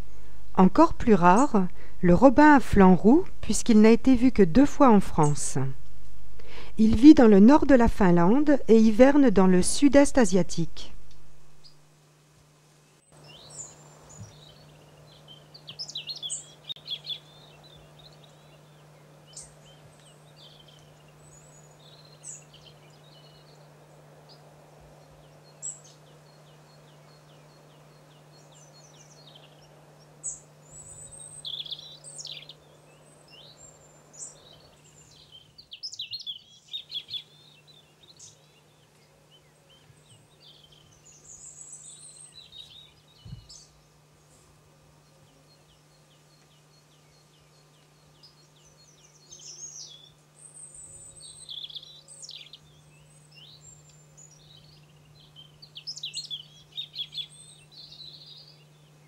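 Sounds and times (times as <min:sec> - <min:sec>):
songbirds chirping and trilling: 0:00.0 - 0:59.0
steady low hum: 0:00.0 - 0:59.0.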